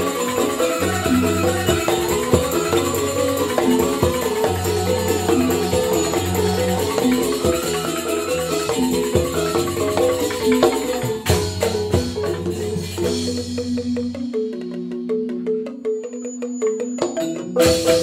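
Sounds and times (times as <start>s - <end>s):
bamboo xylophones: 0.0s - 18.0s
drum and percussion: 0.0s - 18.0s
gamelan music: 0.0s - 18.0s
sharp percussive strikes: 0.0s - 18.0s.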